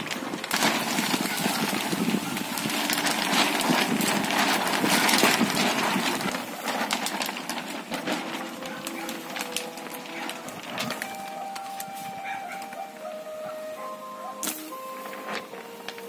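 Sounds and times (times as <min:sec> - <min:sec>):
thin pages flapping: 0:00.0 - 0:12.9.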